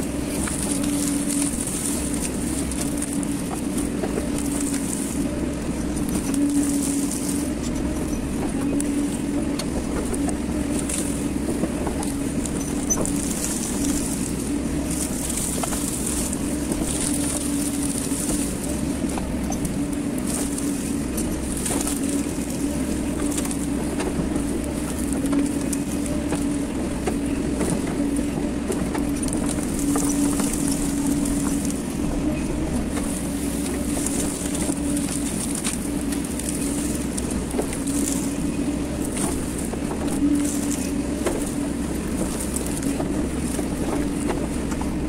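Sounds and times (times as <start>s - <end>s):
bucket scraping in brush: 0.0s - 45.0s
excavator diesel engine running: 0.0s - 45.0s.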